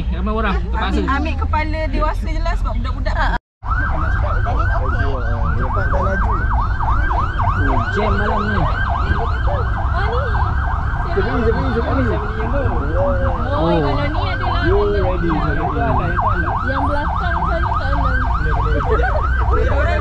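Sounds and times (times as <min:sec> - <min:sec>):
traffic rumble: 0:00.0 - 0:20.0
siren yelping: 0:03.6 - 0:20.0.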